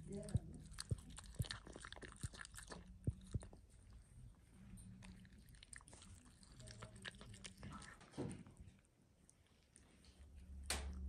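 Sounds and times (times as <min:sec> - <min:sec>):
puppy chewing wetly: 0:00.0 - 0:10.2.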